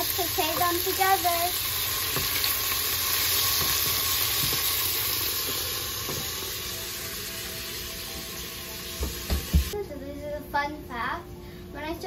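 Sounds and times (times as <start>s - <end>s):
vegetables sizzling in oil: 0.0s - 9.8s.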